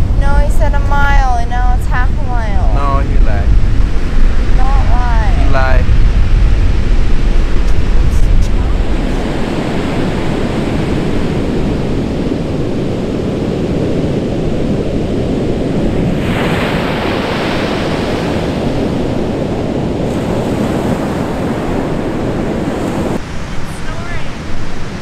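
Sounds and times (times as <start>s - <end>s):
waves rushing: 0.0s - 25.0s.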